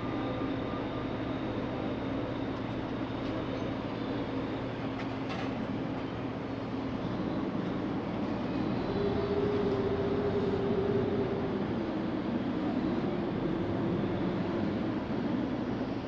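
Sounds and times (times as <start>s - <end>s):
ferry engines droning: 0.0s - 16.0s.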